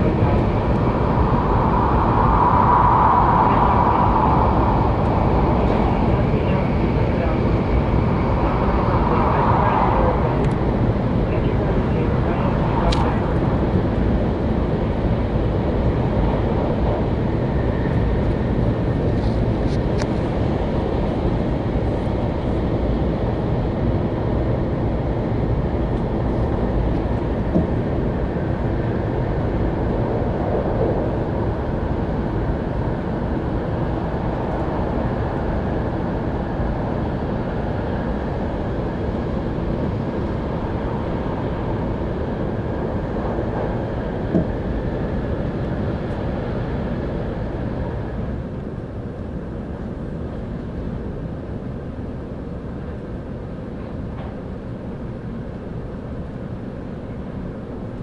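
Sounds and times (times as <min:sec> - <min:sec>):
train cabin rumble at speed: 0:00.0 - 0:58.0.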